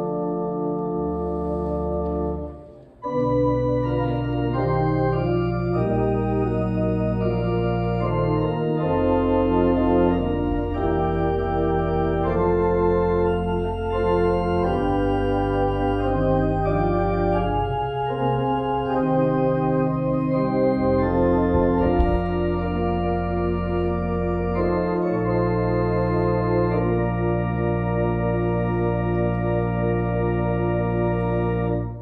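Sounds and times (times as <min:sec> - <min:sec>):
church organ playing: 0:00.0 - 0:32.0.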